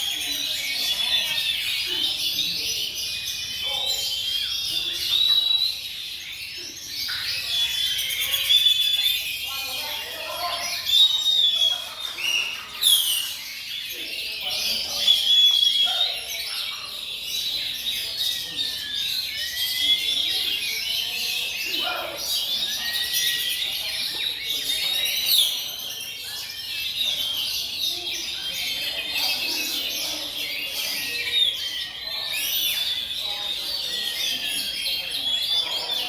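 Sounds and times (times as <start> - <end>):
birds singing whistles and trills: 0.0 - 36.0.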